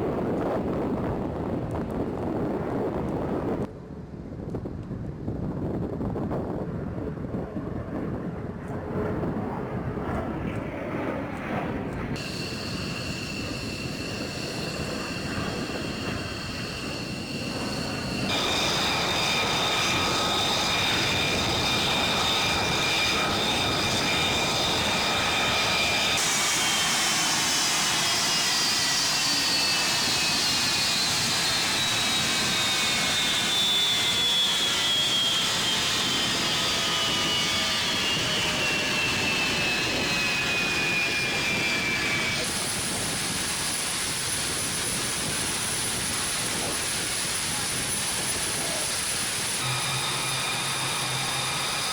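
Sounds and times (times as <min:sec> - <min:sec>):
fighter jet engines whining: 0:05.8 - 0:51.9.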